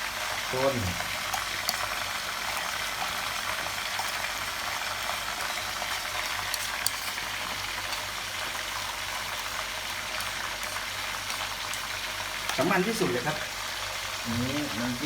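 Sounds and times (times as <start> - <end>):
food sizzling on stove: 0.0 - 15.0.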